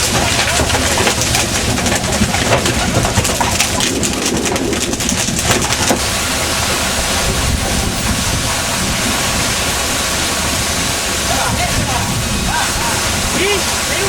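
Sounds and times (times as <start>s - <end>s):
boat engine rumble: 0.0s - 14.0s
rushing water and wind: 0.0s - 14.0s.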